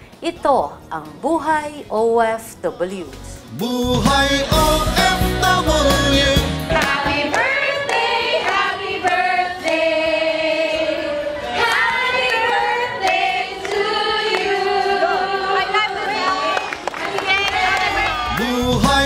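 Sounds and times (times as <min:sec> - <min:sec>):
group of people singing: 0:03.5 - 0:19.0.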